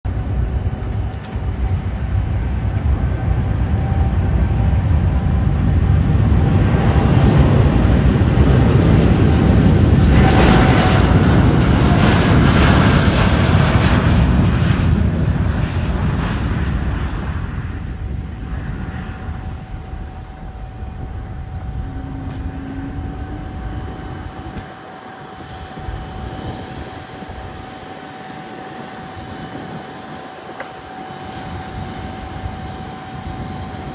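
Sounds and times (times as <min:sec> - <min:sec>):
jet engines rumbling: 0:00.0 - 0:33.9
steady engine whine: 0:00.0 - 0:33.9.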